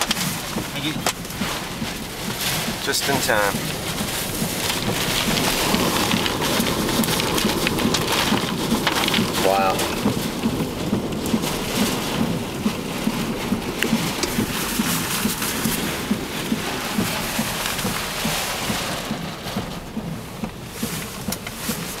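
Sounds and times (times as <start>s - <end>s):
gusting storm wind: 0.0s - 20.9s
heavy rain lashing a car: 0.0s - 22.0s.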